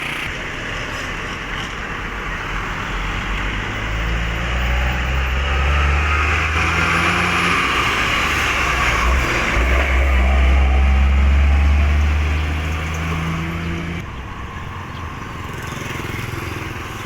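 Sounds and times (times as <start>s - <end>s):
tyre and road noise: 0.0s - 17.0s.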